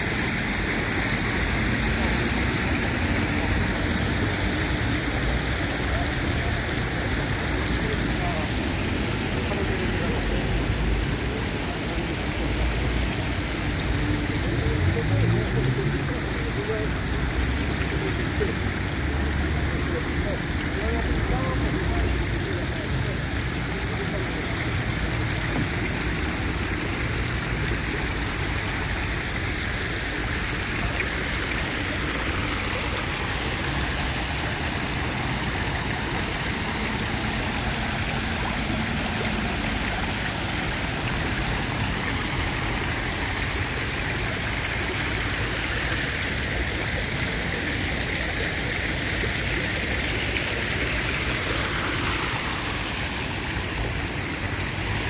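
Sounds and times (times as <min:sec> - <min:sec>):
city traffic: 0:00.0 - 0:55.0
fountain water splashing: 0:00.0 - 0:55.0.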